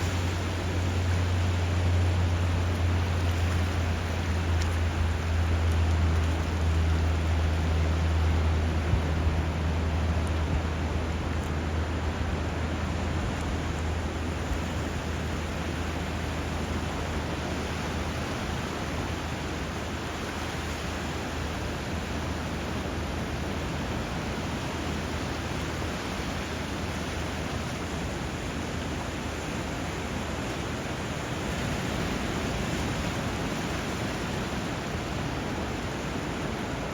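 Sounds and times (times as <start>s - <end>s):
river and surf rushing: 0.0s - 36.9s.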